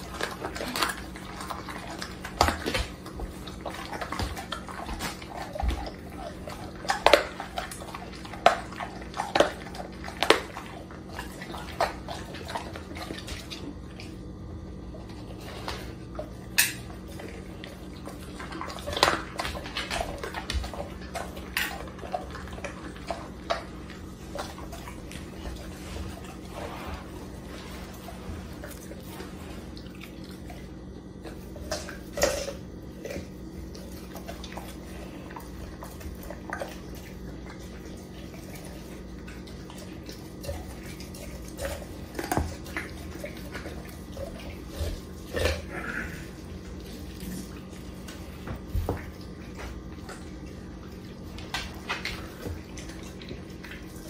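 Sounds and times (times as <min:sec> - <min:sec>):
dog licking and gnawing: 0:00.0 - 0:54.0.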